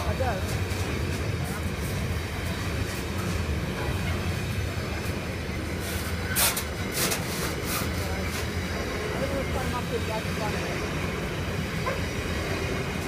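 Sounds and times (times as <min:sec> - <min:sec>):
rumble of wheels on rails: 0:00.0 - 0:13.0.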